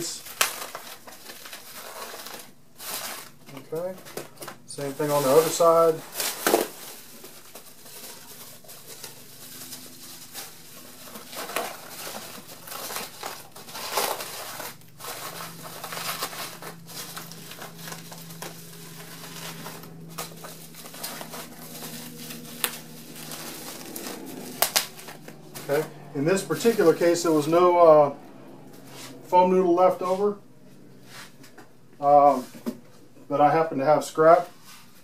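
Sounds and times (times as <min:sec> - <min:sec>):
bubble wrap crinkling and rustling: 0:00.0 - 0:30.4.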